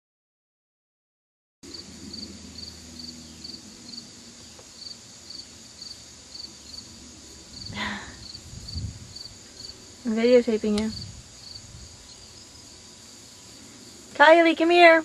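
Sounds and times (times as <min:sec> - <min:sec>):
crickets chirping: 0:01.6 - 0:15.0
high insect hum: 0:01.6 - 0:15.0.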